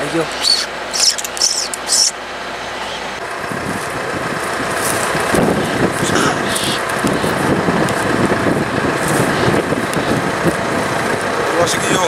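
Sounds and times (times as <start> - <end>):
hissing rustles: 0.0 - 11.8
footsteps through dry brush: 0.1 - 12.0.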